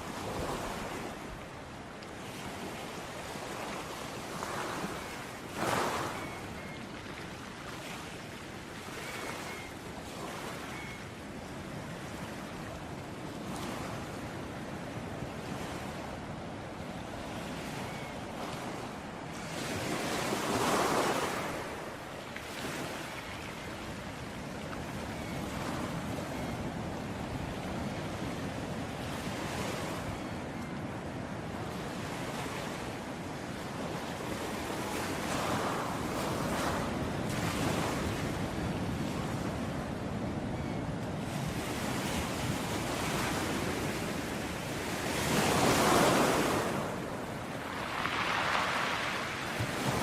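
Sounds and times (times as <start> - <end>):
ocean waves washing onto beach: 0.0 - 50.0.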